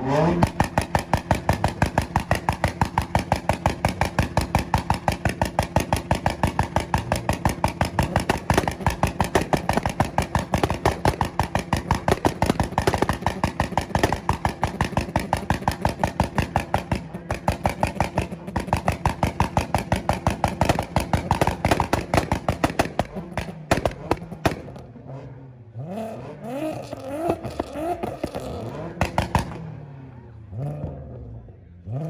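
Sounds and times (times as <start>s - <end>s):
car engine pops and bangs: 0.0s - 25.1s, 26.6s - 30.2s.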